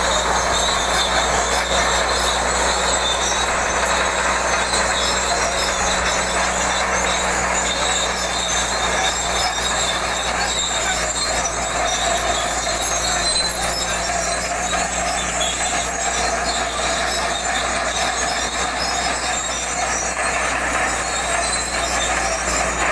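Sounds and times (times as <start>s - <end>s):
bulldozer diesel engine under load: 0.0s - 22.9s
steel tracks clanking: 0.0s - 22.9s.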